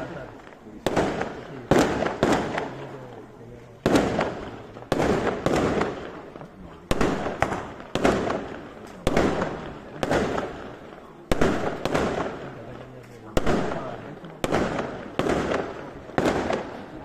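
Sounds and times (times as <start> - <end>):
fireworks bangs echoing: 0.0 - 17.0.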